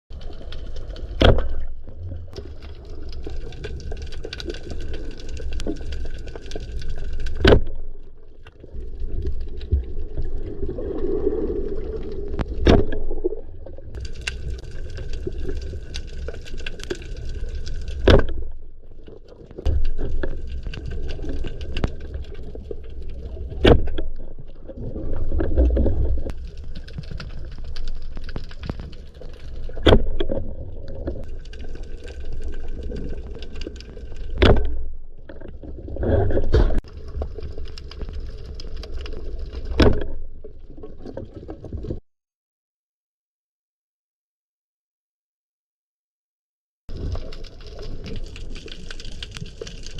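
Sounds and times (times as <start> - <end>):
underwater water noise: 0.1 - 42.0, 46.9 - 49.9.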